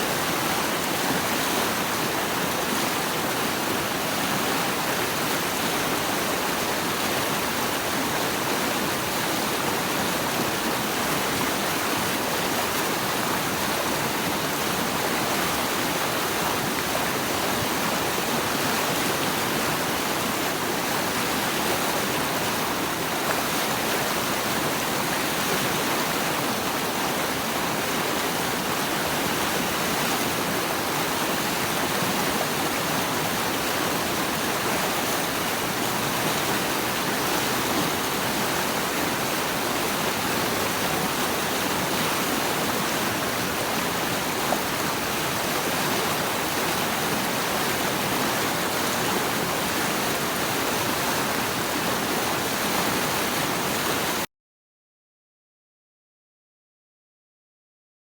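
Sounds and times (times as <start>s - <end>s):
water rushing: 0.0s - 54.3s.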